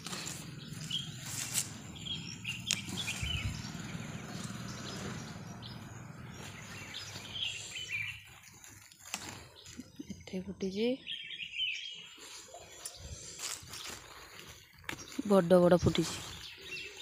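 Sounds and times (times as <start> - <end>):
leaves rustling: 0.0 - 10.2, 12.0 - 17.0
small birds chirping: 0.0 - 17.0.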